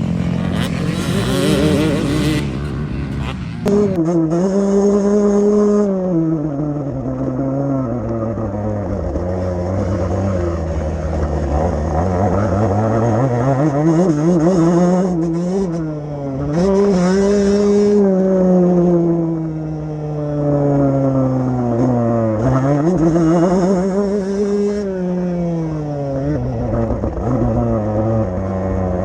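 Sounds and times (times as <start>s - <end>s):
motocross bike engine revving: 0.0s - 29.0s.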